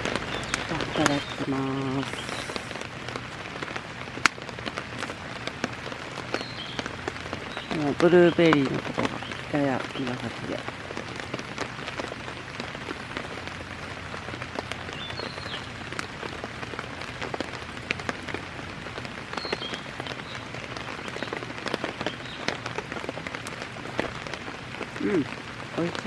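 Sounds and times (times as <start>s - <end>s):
drops ticking: 0.0s - 26.0s
steady rain falling: 0.0s - 26.0s.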